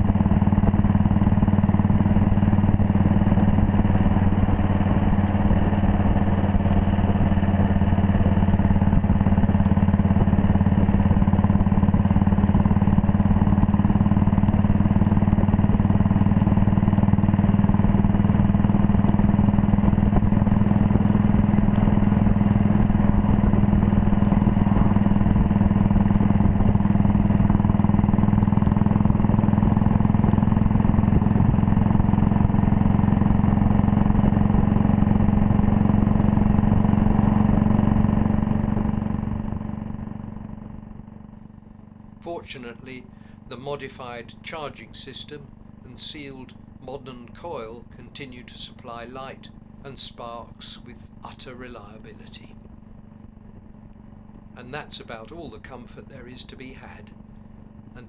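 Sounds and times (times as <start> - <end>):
single-cylinder engine running: 0.0 - 58.0.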